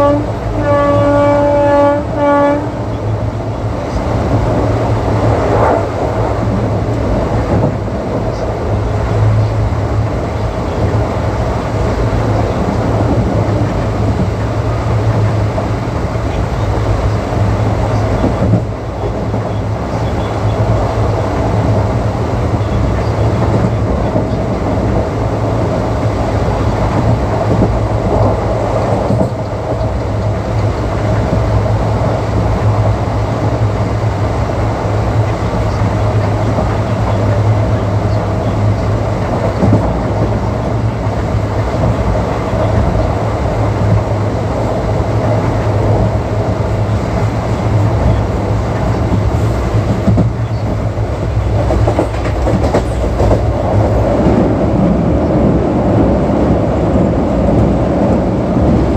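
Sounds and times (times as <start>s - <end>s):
train wheels rumbling and rattling: 0.0s - 58.9s.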